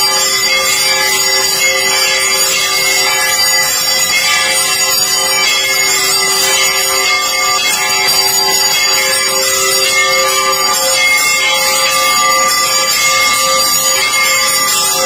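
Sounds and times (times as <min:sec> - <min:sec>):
steady ringing tones: 0:00.0 - 0:15.0
temple bells ringing: 0:00.0 - 0:15.0.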